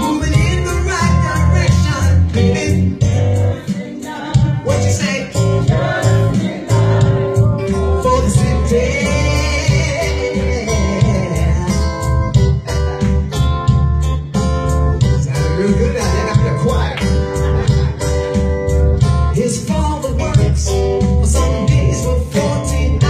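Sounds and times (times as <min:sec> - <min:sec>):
bass line: 0:00.0 - 0:23.0
guitar: 0:00.0 - 0:23.0
steady drum beat: 0:00.0 - 0:23.0.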